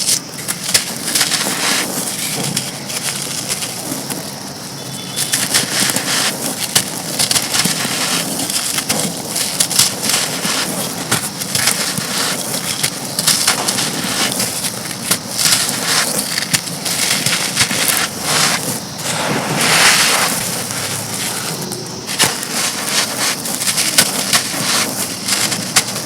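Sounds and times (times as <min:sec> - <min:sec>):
crumbly blocks crunching: 0:00.0 - 0:26.0.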